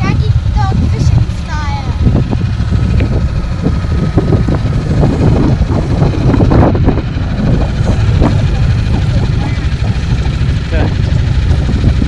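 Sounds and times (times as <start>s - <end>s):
boat engine rumbling: 0.0s - 12.0s
wind on microphone: 0.0s - 12.0s.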